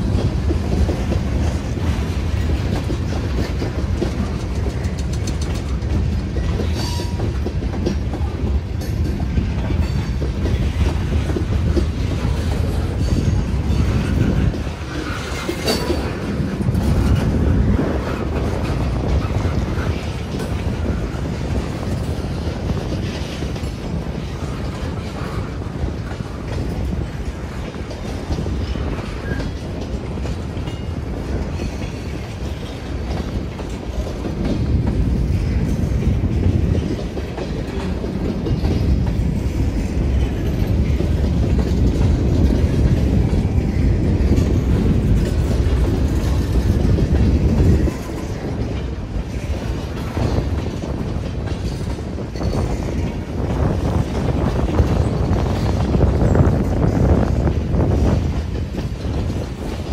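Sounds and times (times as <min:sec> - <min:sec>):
freight train rolling rumble: 0:00.0 - 0:59.9.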